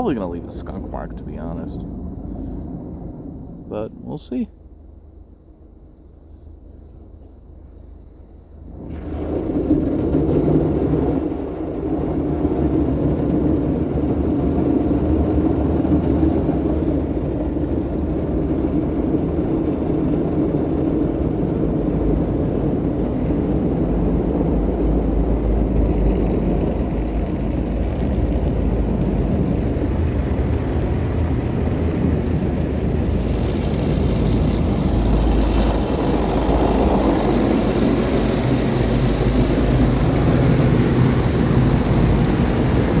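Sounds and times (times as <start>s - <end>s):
car wash machinery rumbling: 0.0s - 43.0s.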